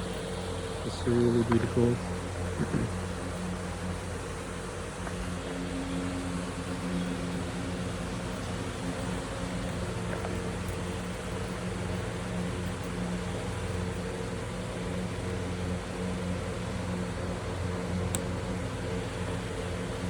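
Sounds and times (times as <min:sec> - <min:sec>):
machine humming and hissing: 0:00.0 - 0:20.0.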